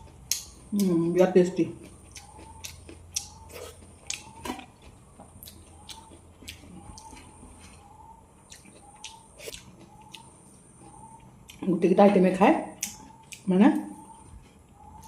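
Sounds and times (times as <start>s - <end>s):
wet chewing and lip smacks: 1.7s - 11.7s, 12.7s - 15.0s.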